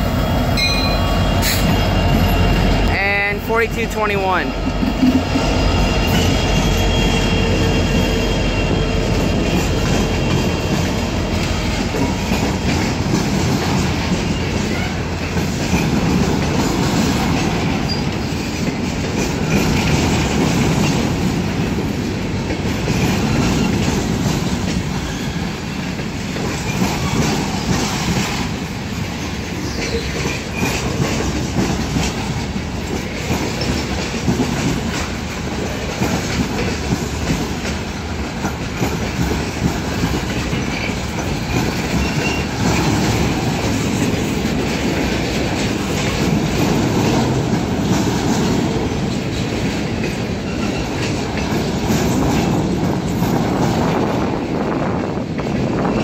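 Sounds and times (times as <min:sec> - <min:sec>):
train wheels rumbling on rail: 0:00.0 - 0:56.0
clicking over rail joints: 0:09.4 - 0:54.5.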